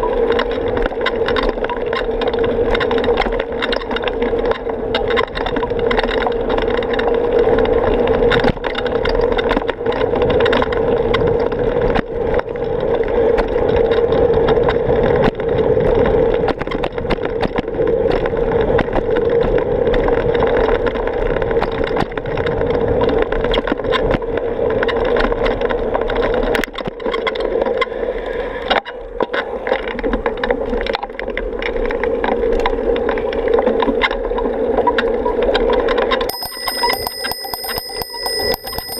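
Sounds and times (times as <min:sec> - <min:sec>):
bike rattling and clicking: 0:00.0 - 0:27.9, 0:31.6 - 0:38.9
bicycle tyre road noise: 0:00.0 - 0:38.9.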